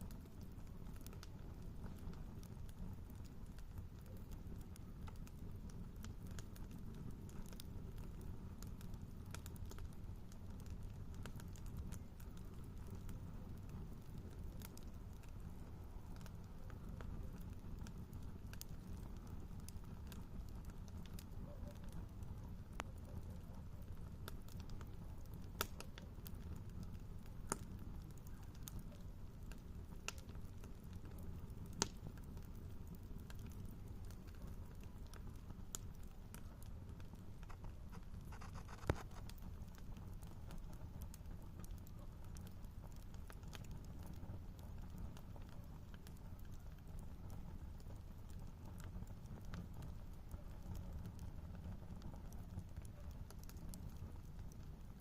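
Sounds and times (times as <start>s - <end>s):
bonfire rumble: 0.0s - 55.0s
fire crackles and pops: 0.0s - 55.0s.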